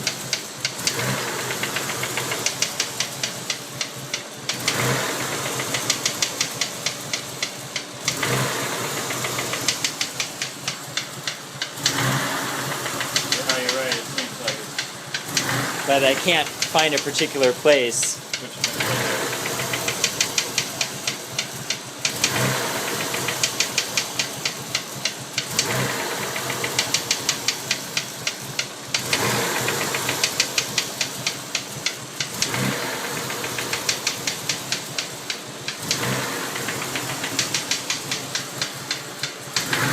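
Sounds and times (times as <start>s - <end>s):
car engine idling: 0.0s - 39.9s
sharp engine knocking: 0.0s - 39.9s.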